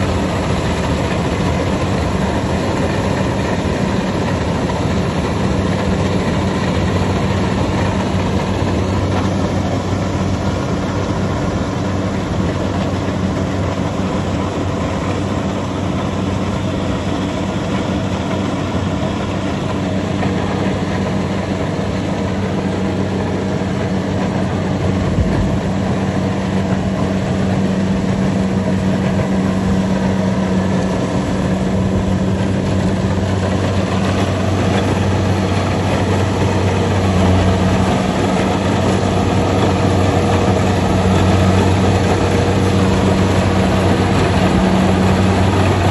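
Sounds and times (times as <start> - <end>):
diesel engine running: 0.0 - 45.9
machine noise wash: 0.0 - 45.9.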